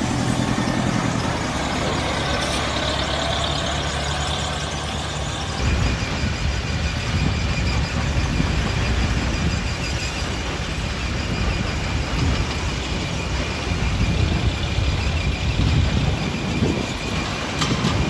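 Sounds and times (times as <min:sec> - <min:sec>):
heavy machinery rumbling: 0:00.0 - 0:18.0.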